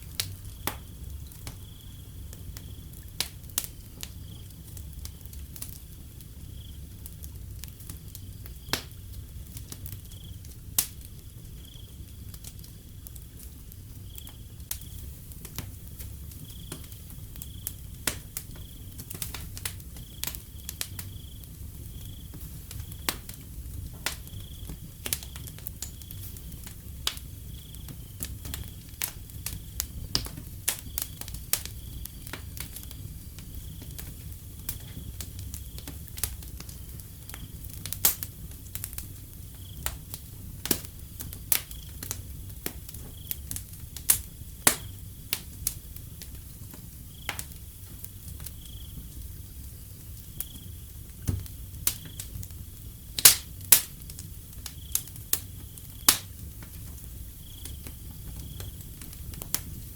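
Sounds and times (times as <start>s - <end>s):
crickets chirping: 0.0s - 59.9s
wood fire crackling and popping: 0.0s - 59.9s.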